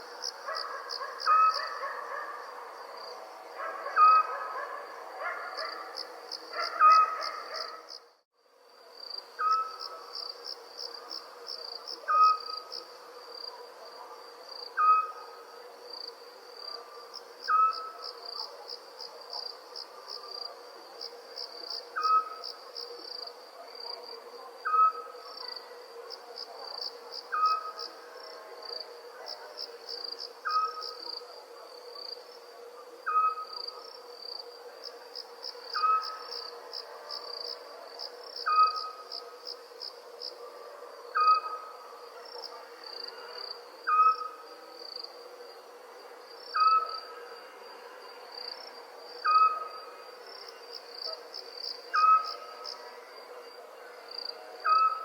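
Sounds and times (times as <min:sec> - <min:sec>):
crickets chirping: 0:00.0 - 0:55.0
short insect call: 0:00.0 - 0:55.0
steady insect drone: 0:00.0 - 0:55.0.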